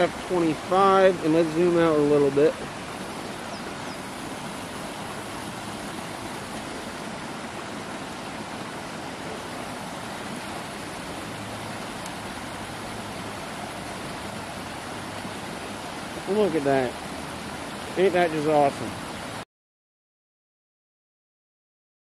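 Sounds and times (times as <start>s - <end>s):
water rushing over rocks: 0.0s - 19.4s.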